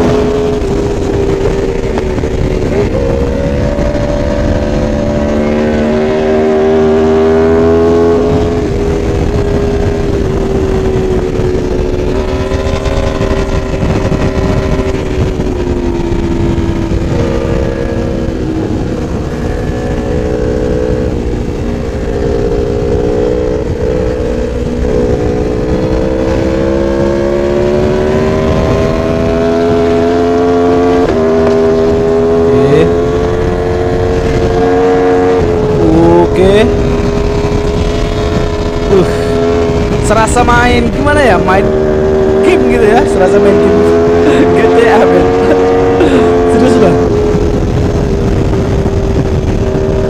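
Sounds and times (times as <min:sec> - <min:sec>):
motorcycle engine at high revs: 0:00.0 - 0:50.0
wind rush: 0:00.0 - 0:50.0.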